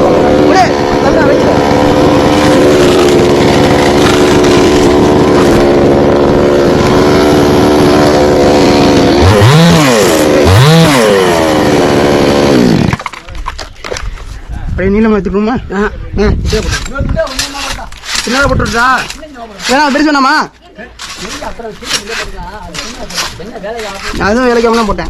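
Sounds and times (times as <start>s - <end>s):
chainsaw engine revving: 0.0s - 13.2s, 16.5s - 20.2s, 21.0s - 25.0s.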